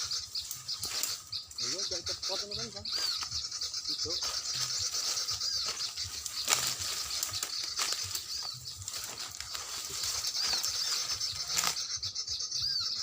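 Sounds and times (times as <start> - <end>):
songbird high chirps: 0.0 - 13.0.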